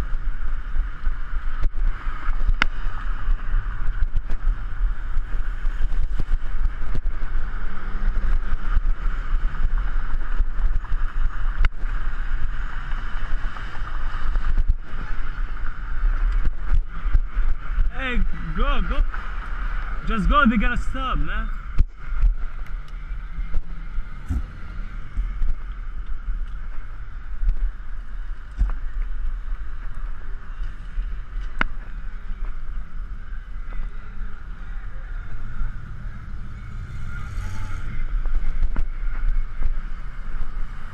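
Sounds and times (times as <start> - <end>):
road rumble: 0.0 - 40.9
wind: 0.0 - 40.9.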